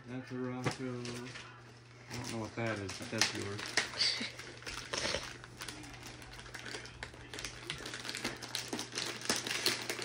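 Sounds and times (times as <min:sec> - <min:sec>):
foil wrapping paper tearing: 0:00.5 - 0:10.0.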